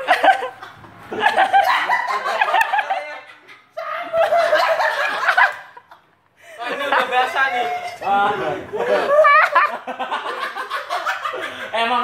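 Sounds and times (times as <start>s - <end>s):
young men laughing: 0.0s - 12.0s.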